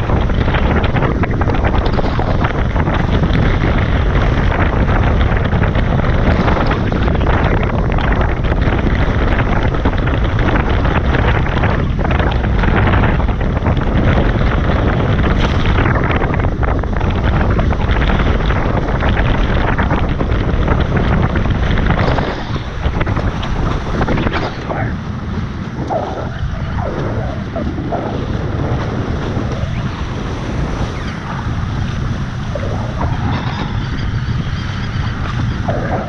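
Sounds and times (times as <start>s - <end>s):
water rushing past hulls: 0.0s - 36.0s
wind buffeting microphone: 0.0s - 36.0s.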